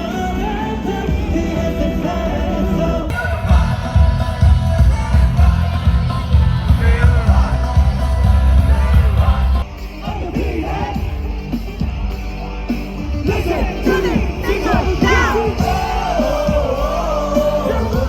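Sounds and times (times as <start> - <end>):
live pop concert music: 0.0 - 18.0
crowd yelling: 2.2 - 18.0.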